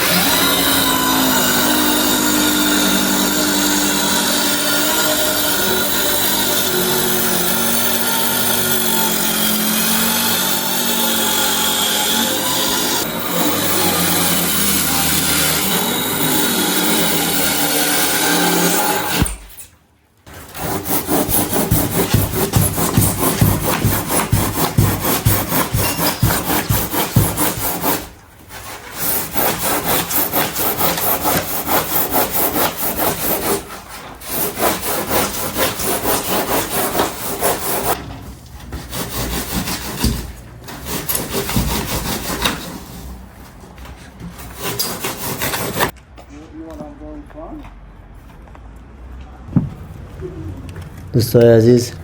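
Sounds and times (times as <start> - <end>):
hand saw cutting: 0.0 - 19.7, 20.3 - 38.0, 38.7 - 43.2, 44.3 - 46.0.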